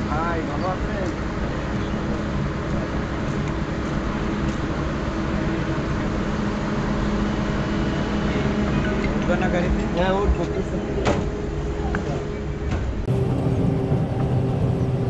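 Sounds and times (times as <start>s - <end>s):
diesel train engine idling: 0.0s - 15.0s.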